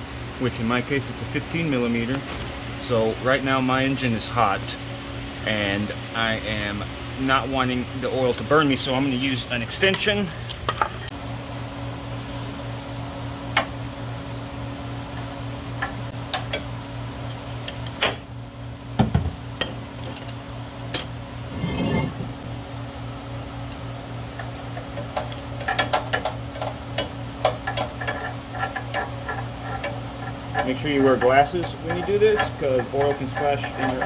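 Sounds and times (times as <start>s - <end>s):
electric fan humming: 0.0s - 34.0s.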